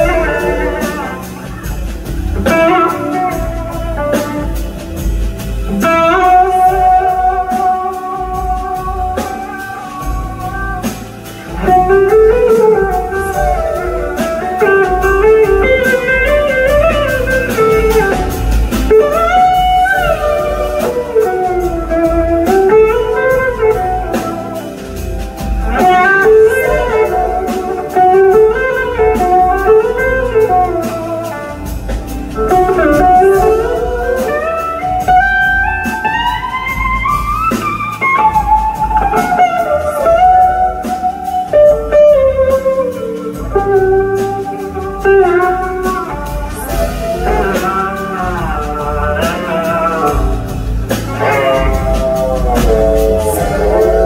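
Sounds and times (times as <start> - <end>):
drums: 0.0 - 54.0
electric slide guitar melody: 0.0 - 54.0
second electric guitar: 0.0 - 54.0.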